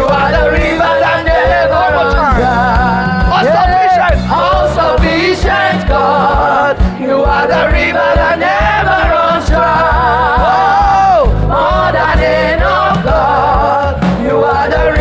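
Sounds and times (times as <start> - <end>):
bass: 0.0 - 15.0
steady drum beat: 0.0 - 15.0
voices singing gospel: 0.0 - 15.0.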